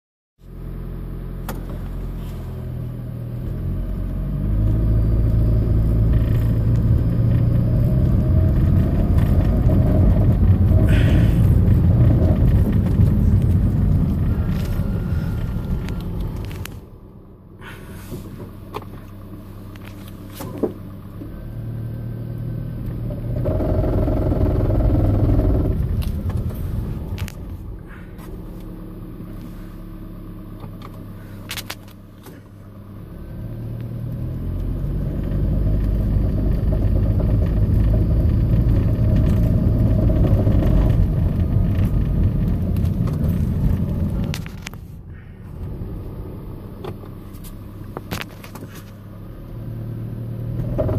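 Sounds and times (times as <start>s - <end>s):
car engine and road noise: 0.4s - 50.9s.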